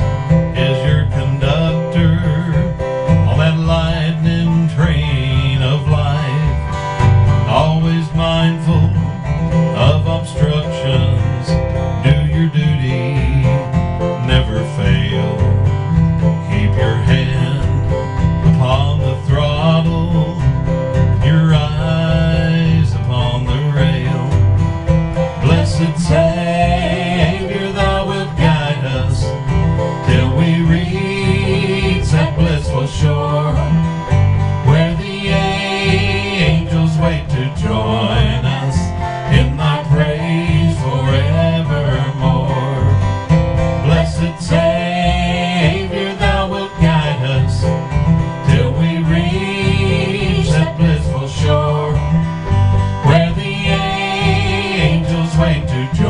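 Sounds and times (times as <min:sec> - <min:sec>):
acoustic guitar strummed: 0:00.0 - 0:56.0
keyboard: 0:00.0 - 0:56.0
man and woman singing hymn: 0:00.6 - 0:06.7, 0:07.5 - 0:24.4, 0:25.4 - 0:34.0, 0:34.6 - 0:56.0.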